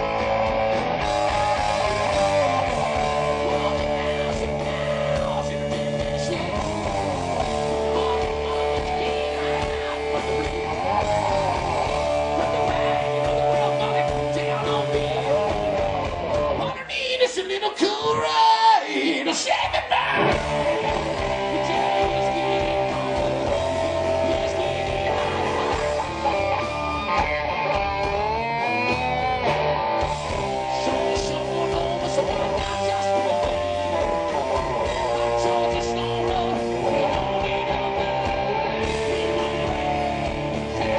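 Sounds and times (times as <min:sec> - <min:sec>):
electric guitar bending notes: 0:00.0 - 0:16.8, 0:20.2 - 0:40.9
hard rock band playing: 0:00.0 - 0:40.9.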